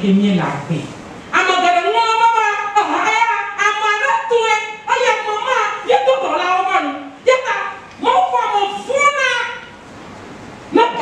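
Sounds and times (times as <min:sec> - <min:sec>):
woman's voice through microphone: 0:00.0 - 0:09.8, 0:10.7 - 0:11.0.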